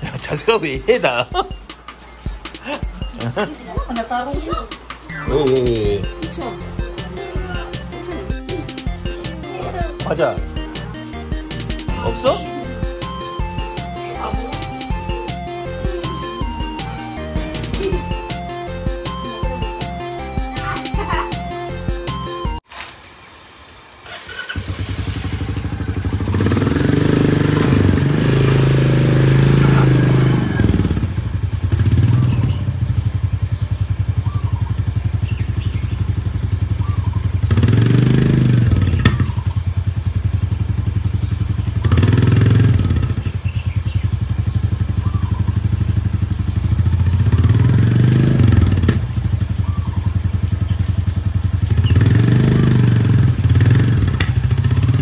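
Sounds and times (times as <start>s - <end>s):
motorcycle engine running: 0.0s - 21.9s, 24.1s - 55.0s.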